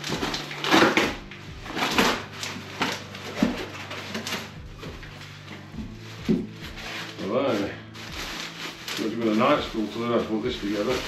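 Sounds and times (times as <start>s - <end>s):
packaging rustling and scraping: 0.0s - 11.0s.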